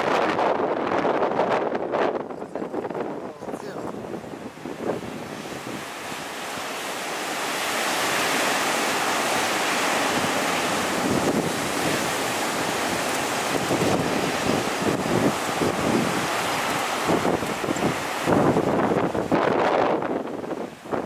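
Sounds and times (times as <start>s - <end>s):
heavy surf breaking: 0.0s - 21.0s
wind gusting on microphone: 0.0s - 21.0s.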